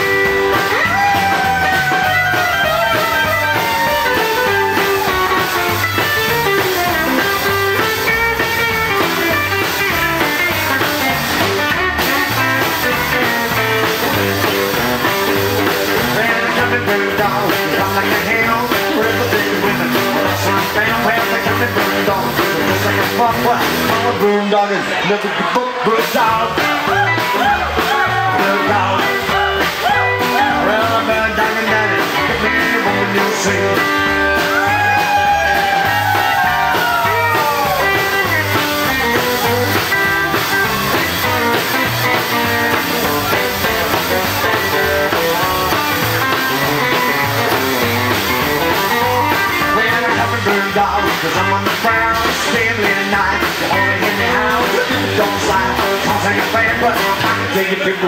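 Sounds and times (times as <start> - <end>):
person singing: 0.0 - 10.9, 11.6 - 58.0
upright double bass: 0.0 - 24.8, 25.8 - 58.0
acoustic guitar: 0.0 - 58.0
drums: 0.0 - 58.0
electric guitar: 0.0 - 58.0.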